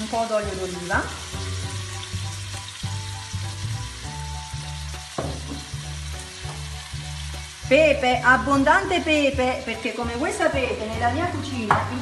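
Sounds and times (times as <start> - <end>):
food sizzling in oil: 0.0 - 12.0
low background music: 0.0 - 12.0.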